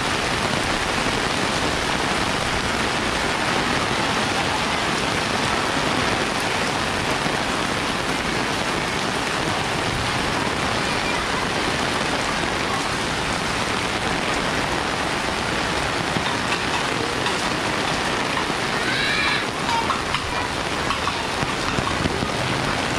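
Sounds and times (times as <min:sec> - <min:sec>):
heavy rain falling: 0:00.0 - 0:22.9.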